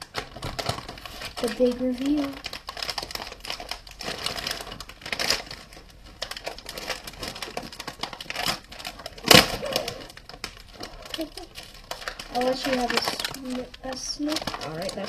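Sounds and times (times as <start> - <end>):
plastic package crinkling: 0.0 - 15.0.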